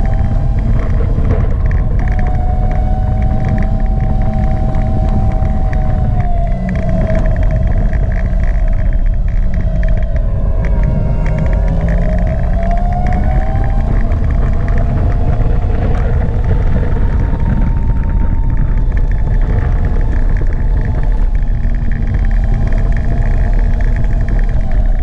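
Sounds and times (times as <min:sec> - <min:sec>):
electric motor whine: 0:00.0 - 0:25.0
wind rumble on microphone: 0:00.0 - 0:25.0.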